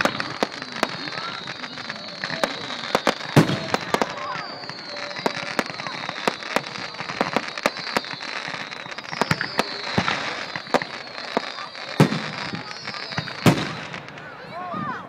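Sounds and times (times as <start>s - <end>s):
firework whistles sliding down: 0.0s - 14.5s
fireworks bangs and crackles: 0.0s - 15.0s.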